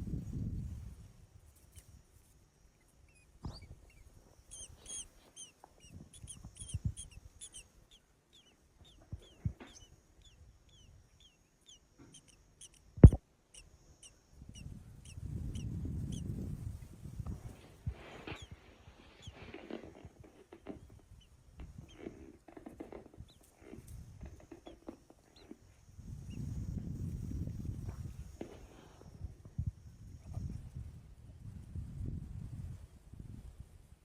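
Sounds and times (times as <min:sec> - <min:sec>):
small birds chirping: 0:01.5 - 0:30.7.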